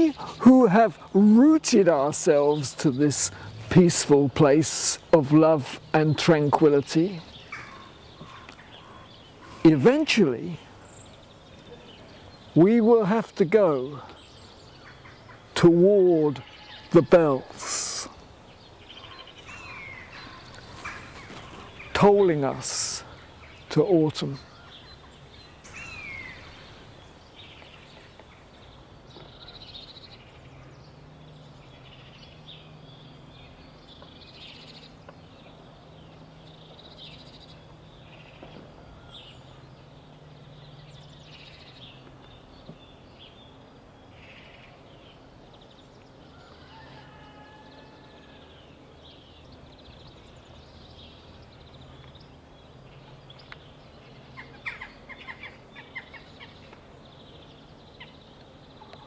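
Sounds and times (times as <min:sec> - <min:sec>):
birds chirping and calling: 0:00.0 - 0:59.0.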